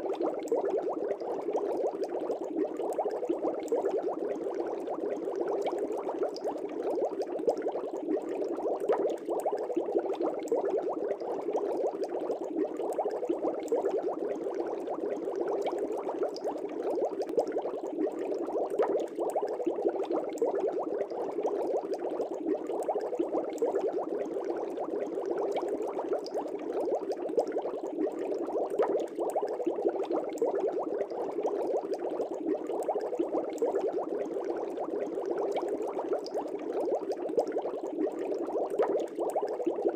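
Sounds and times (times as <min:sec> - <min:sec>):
air bubbles in fish tank: 0:00.0 - 0:39.9.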